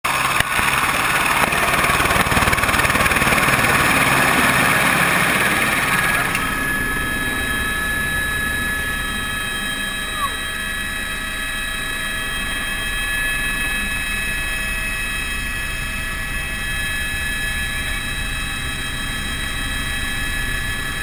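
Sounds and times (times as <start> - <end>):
helicopter engine and rotor: 0.1 - 21.0.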